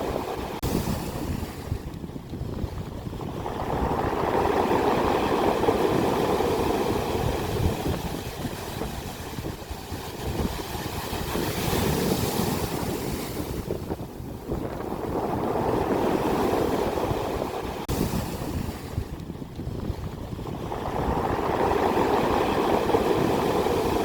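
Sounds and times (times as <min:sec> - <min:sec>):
ocean waves breaking: 0:00.0 - 0:24.0.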